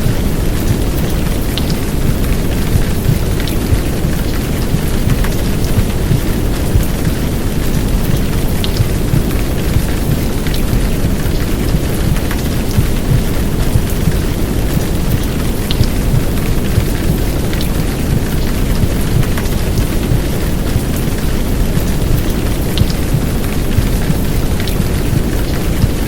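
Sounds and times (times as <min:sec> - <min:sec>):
heavy rain downpour: 0:00.0 - 0:26.0
sharp raindrop ticks: 0:00.0 - 0:26.0.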